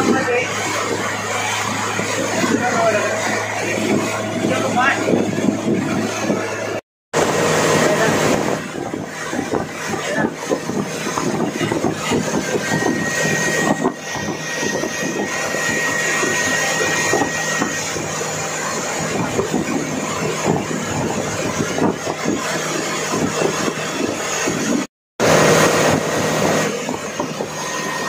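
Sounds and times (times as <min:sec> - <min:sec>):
motorboat engine running: 0:00.0 - 0:28.0
water rushing and splashing: 0:00.0 - 0:28.0
wind on microphone: 0:00.0 - 0:28.0.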